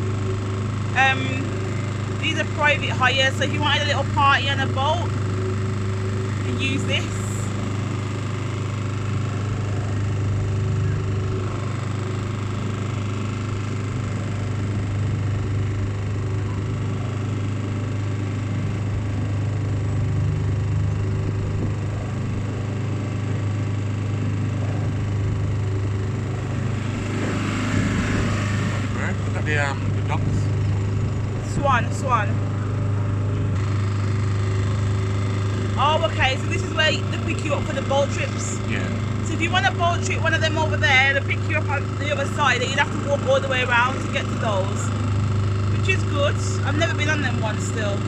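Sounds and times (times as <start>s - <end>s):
motorboat engine humming: 0.0s - 48.0s.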